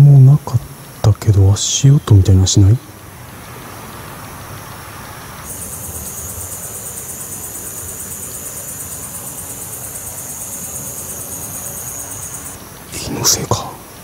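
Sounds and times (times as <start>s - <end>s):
night insects chirping: 0.0s - 14.0s
soft hiss: 0.0s - 14.0s.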